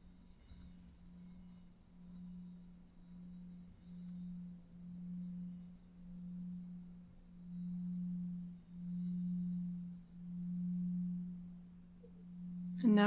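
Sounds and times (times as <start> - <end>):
low drone tone: 2.1 - 13.0.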